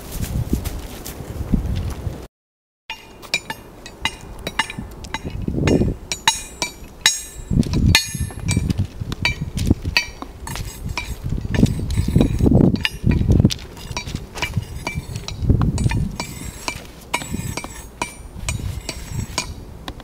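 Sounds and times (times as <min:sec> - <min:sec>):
footsteps on stone ballast: 0:00.0 - 0:02.2, 0:04.2 - 0:20.0.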